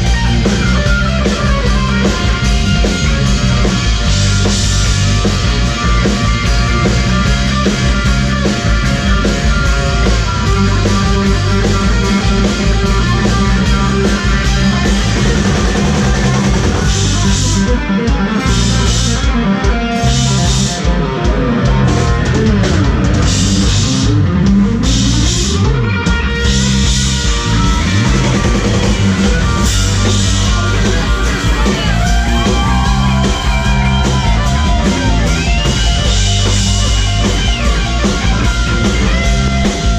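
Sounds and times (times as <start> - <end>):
drum kit: 0.0 - 39.9
electric guitar lead bending: 0.0 - 39.9.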